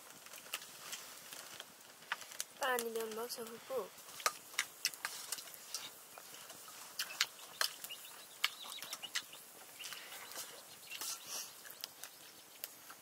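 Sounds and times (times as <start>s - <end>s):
chewing: 0.1s - 2.6s, 3.4s - 13.0s.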